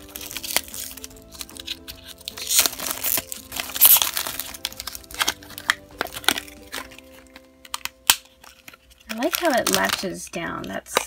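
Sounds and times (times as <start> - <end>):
plastic wrapper crinkling and tearing: 0.0 - 11.0.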